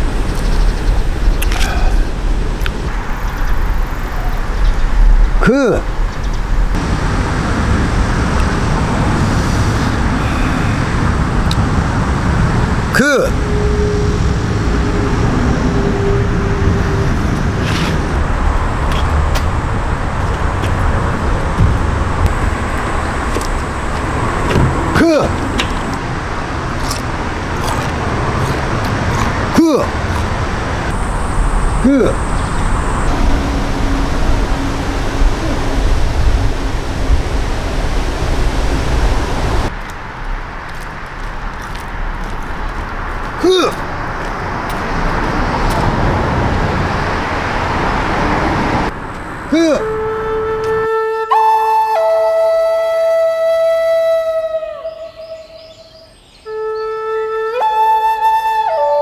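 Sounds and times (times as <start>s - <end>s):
road traffic roar: 0.0s - 59.0s.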